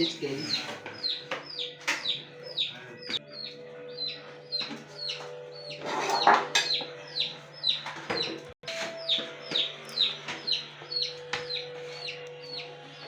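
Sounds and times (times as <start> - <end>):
chickens peeping: 0.0 - 13.0.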